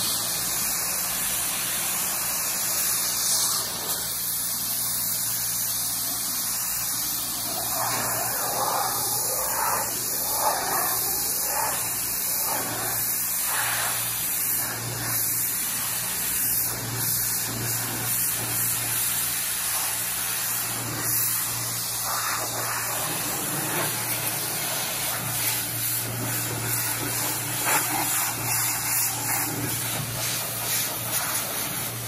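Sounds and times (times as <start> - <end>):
pressure washer humming: 0.0 - 32.0
water spray hissing: 6.1 - 32.0.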